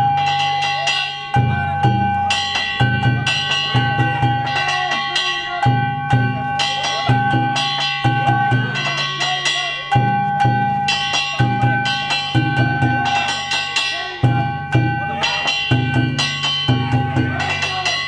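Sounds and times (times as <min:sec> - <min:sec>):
hand gongs clanging: 0:00.0 - 0:18.0
taiko drum fast rhythm: 0:01.3 - 0:18.0.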